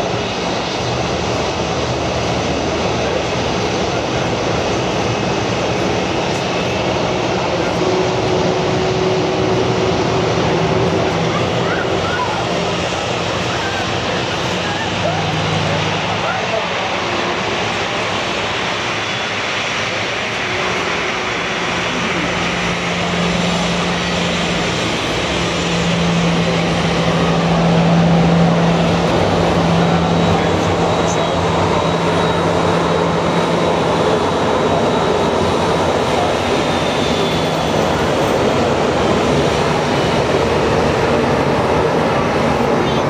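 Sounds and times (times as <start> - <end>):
jet engines at taxi power: 0.0 - 43.0
turboprop engines: 0.0 - 43.0.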